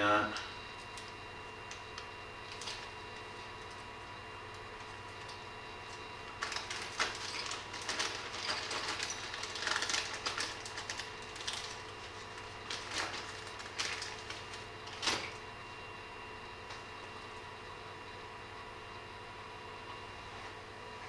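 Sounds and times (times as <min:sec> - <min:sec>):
electrical hum with whining tones: 0:00.0 - 0:21.0.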